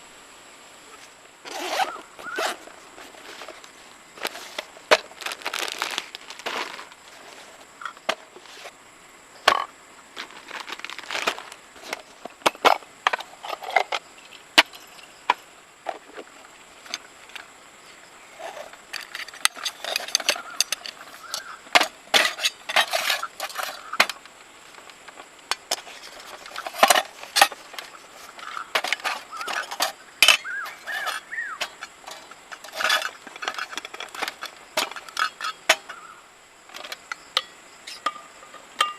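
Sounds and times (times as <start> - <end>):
rustling: 0.9 - 8.8, 9.5 - 37.2.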